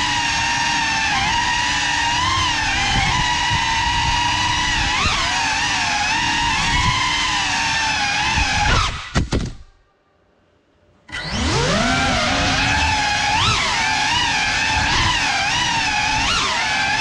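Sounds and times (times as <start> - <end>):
drone motors whining: 0.0 - 9.2, 11.1 - 17.0.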